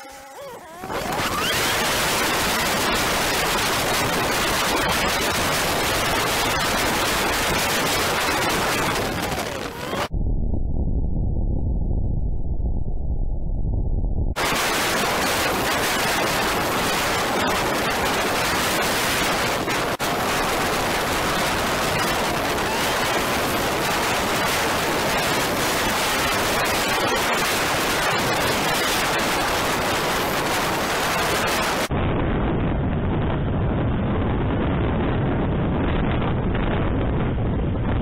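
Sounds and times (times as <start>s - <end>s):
wind hissing on microphone: 0.0s - 10.1s, 14.4s - 38.0s.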